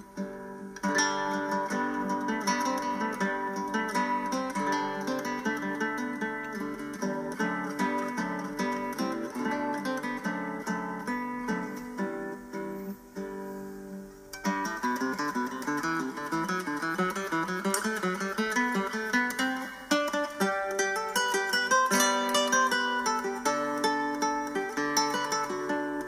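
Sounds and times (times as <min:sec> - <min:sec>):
plucked string music: 0:00.0 - 0:26.0.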